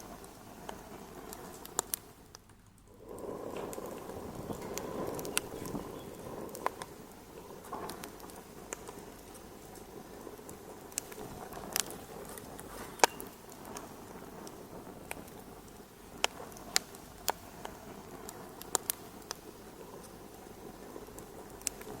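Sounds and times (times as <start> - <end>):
fire popping and snapping: 0.0 - 22.0
low rush of burning: 0.0 - 22.0
wood fire crackling: 0.0 - 22.0.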